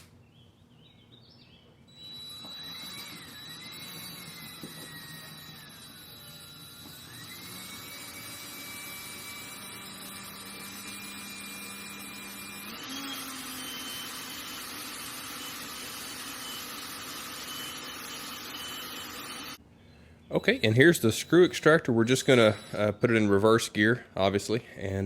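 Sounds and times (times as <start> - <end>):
electric drill whining: 1.9 - 19.6, 21.0 - 23.8.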